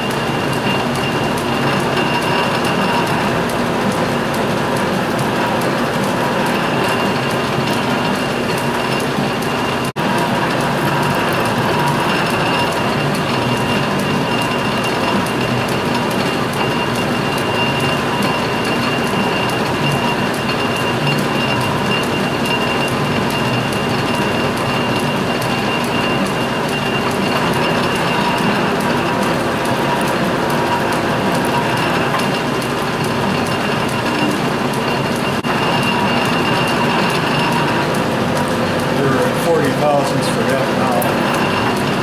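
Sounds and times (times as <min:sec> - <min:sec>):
metal lathe whining and rattling: 0:00.0 - 0:42.0.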